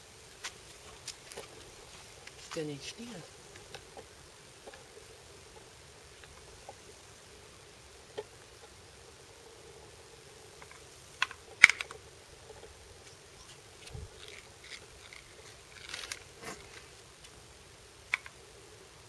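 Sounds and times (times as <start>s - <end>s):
rustling dry grass: 0.0s - 19.0s.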